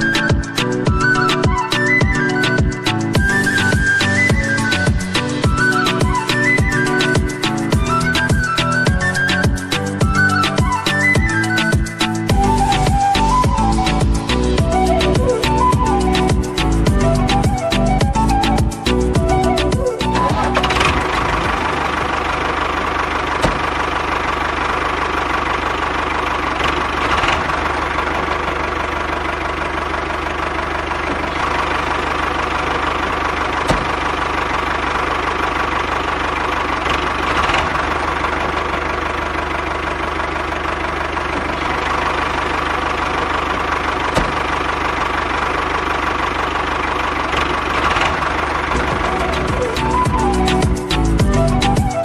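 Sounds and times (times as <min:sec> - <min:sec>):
small tractor engine running: 0:00.0 - 0:52.0.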